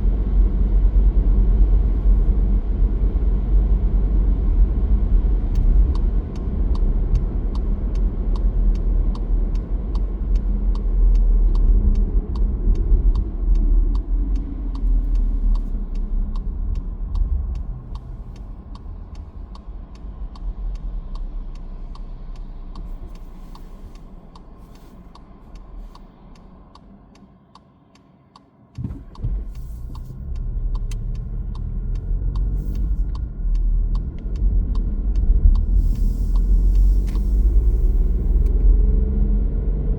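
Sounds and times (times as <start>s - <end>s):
car road rumble: 0.0s - 39.9s
steady ticking: 5.6s - 38.6s.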